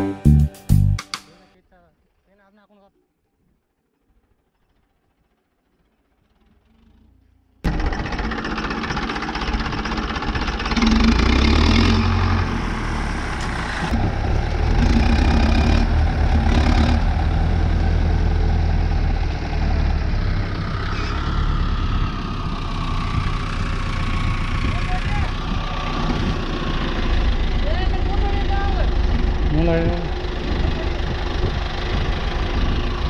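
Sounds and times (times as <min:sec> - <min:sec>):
tractor diesel engines straining: 0:03.8 - 0:33.0.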